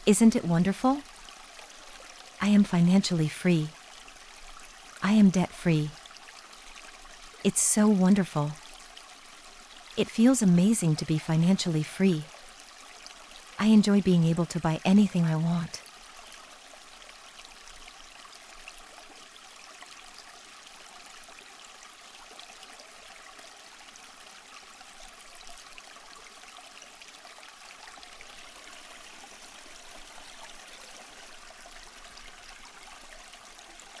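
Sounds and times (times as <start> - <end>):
stream water flowing: 0.0 - 34.0.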